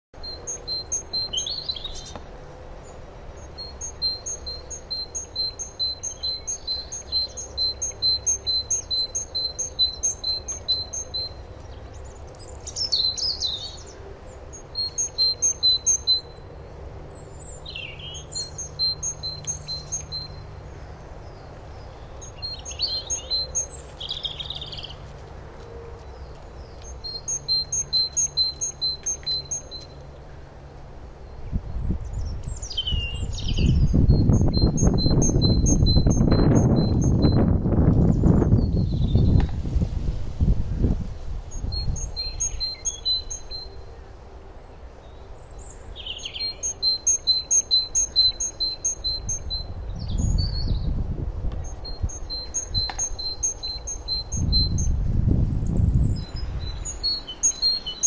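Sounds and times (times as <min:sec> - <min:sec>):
bird chirps and trills: 0:00.2 - 0:30.5, 0:31.1 - 0:39.5, 0:41.5 - 0:51.0, 0:51.6 - 0:58.0.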